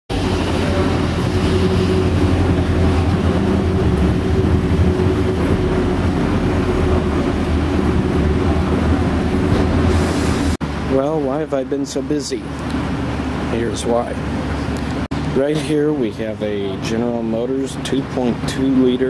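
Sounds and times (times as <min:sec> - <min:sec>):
low mechanical rumble with hum: 0:00.1 - 0:19.0.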